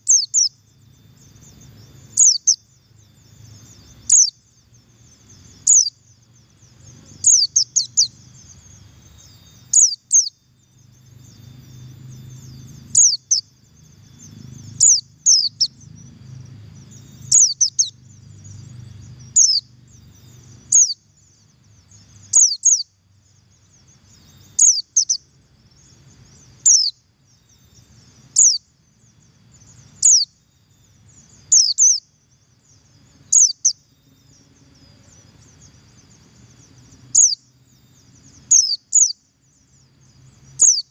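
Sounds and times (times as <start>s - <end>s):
faint high twittering: 0.0s - 40.9s.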